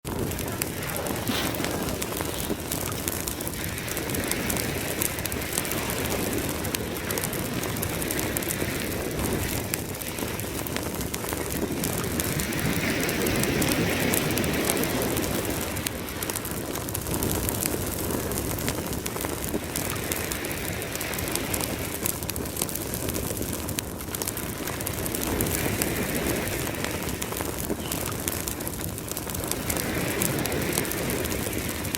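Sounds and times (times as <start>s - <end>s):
campfire crackling and popping: 0.0s - 31.9s
ocean waves: 0.0s - 31.9s.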